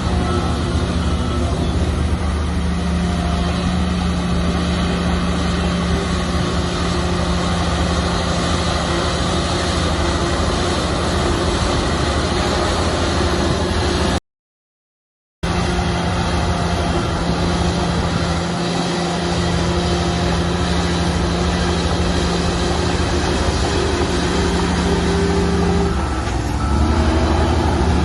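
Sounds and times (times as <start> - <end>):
bulldozer diesel engine droning: 0.0 - 14.2, 15.4 - 28.0.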